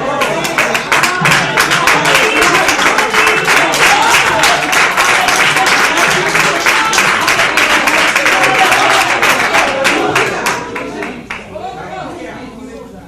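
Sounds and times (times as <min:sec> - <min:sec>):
congregation clapping: 0:00.0 - 0:11.5.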